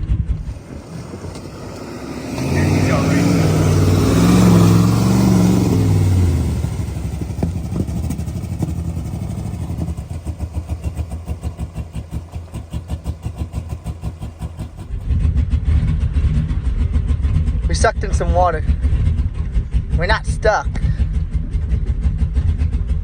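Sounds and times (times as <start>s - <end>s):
truck engine running in water: 0.0s - 20.2s.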